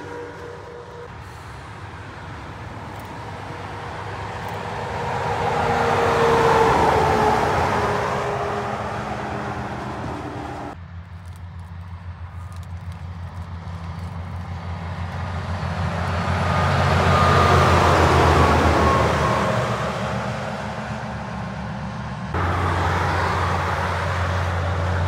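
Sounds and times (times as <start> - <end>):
heavy truck passing: 0.0 - 10.8, 13.5 - 25.0.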